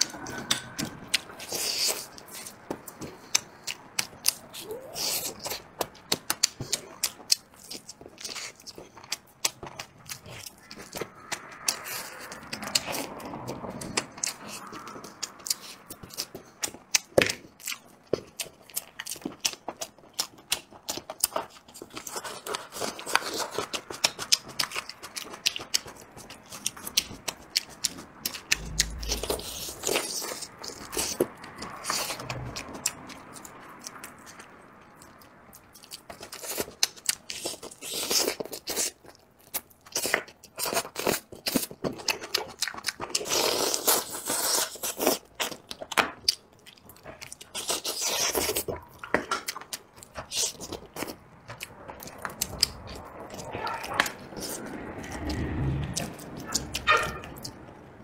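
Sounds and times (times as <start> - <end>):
wet chewing with crunches: 0.0 - 57.9.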